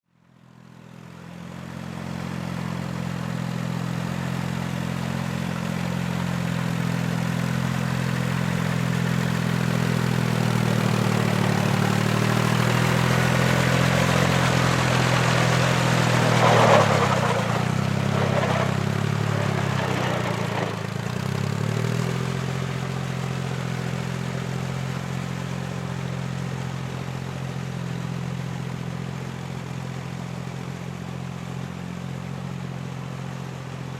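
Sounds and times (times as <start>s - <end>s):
diesel engine idling: 1.2s - 33.9s.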